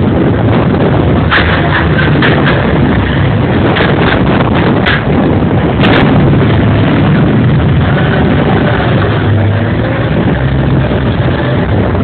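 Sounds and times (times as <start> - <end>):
constant rushing noise: 0.0 - 12.0
tractor engine running hard: 0.0 - 12.0.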